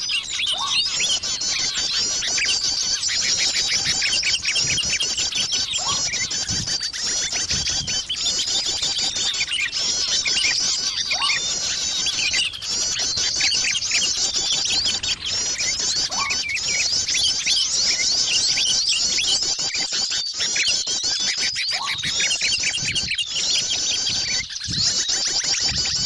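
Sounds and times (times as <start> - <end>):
small birds chirping and twittering: 0.0 - 26.0.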